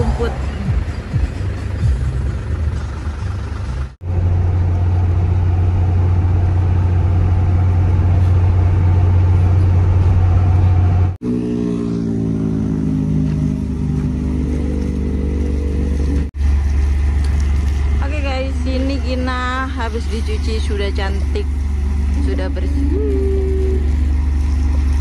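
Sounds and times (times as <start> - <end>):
engine humming tone: 0.0 - 25.0
truck engine drone in cab: 0.0 - 25.0.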